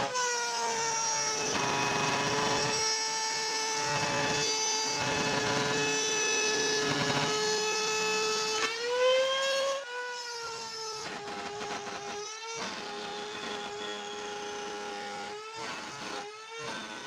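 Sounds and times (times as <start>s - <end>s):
power tool cutting wood: 0.0s - 17.0s.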